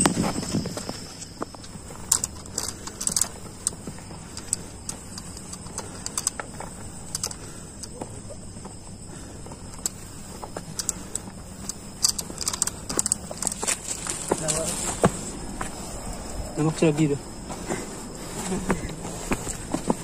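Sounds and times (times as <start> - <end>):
crickets chirring: 0.0 - 20.0
footsteps on dirt trail: 0.0 - 20.0.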